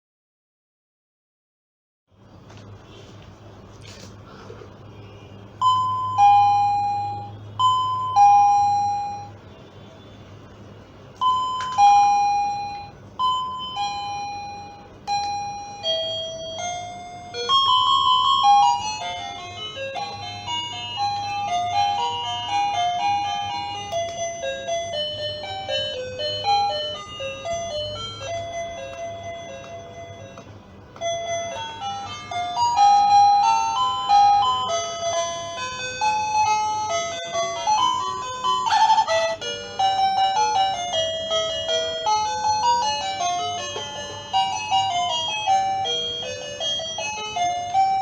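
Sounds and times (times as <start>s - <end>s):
doorbell ding-dong chime: 5.6s - 9.4s, 11.2s - 48.0s
electronic doorbell melody: 5.6s - 9.4s, 11.2s - 48.0s.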